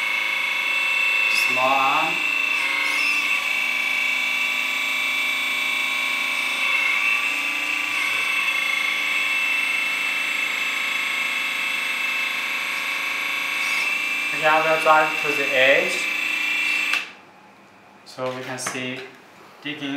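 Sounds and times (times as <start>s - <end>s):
hydraulic pump whining: 0.0s - 17.2s.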